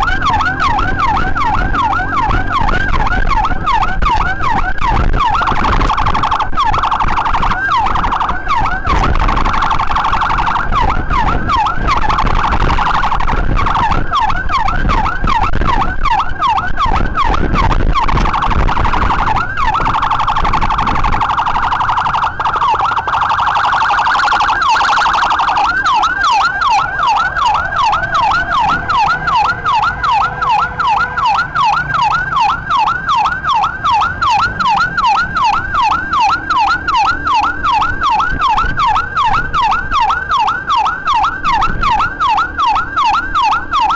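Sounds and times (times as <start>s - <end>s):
electronic ambulance siren yelping: 0.0s - 43.9s
rushing wind and road noise: 0.0s - 43.9s.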